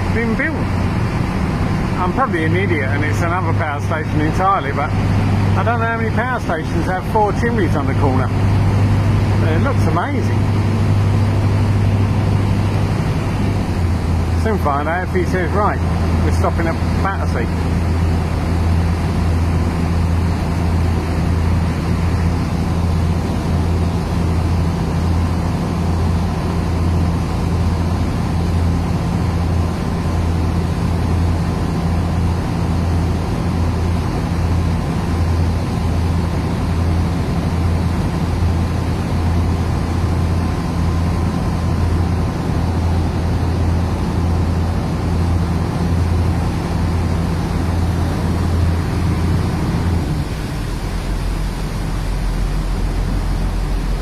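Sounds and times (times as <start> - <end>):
boat engines droning: 0.0 - 54.0
water and hull noise: 0.0 - 54.0.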